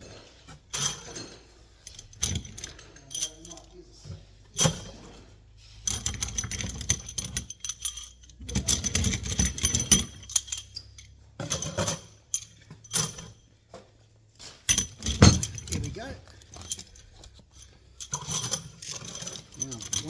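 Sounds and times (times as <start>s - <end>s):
nuts and bolts clinking: 0.0s - 20.0s.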